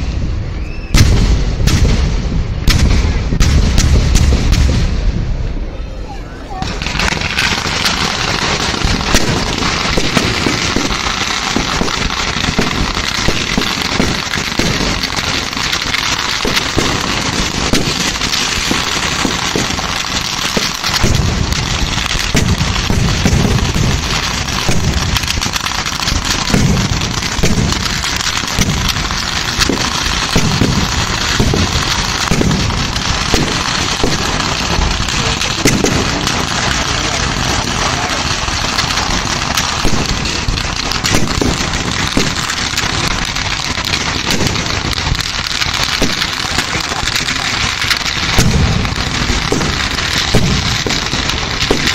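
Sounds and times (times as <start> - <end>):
firecrackers crackling: 0.0 - 51.9
low firework booms: 0.0 - 51.9.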